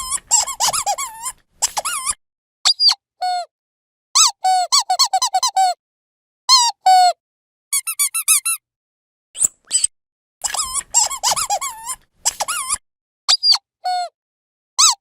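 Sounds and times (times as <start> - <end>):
squeaky dog toy squeaking: 0.0 - 3.5, 4.2 - 5.8, 6.5 - 8.6, 9.4 - 14.1, 14.8 - 15.0.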